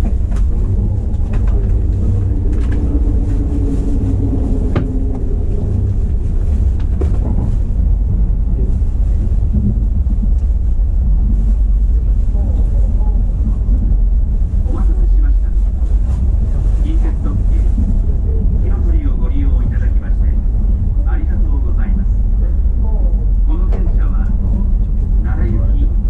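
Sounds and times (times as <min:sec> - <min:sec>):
electric train rumble in tunnel: 0:00.0 - 0:26.0.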